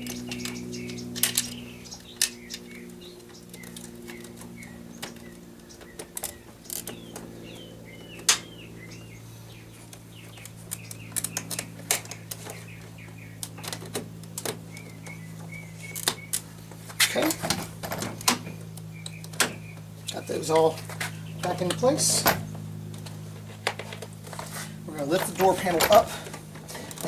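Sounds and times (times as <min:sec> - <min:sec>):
birds chirping: 0:00.0 - 0:27.0
steady low hum: 0:00.0 - 0:27.0.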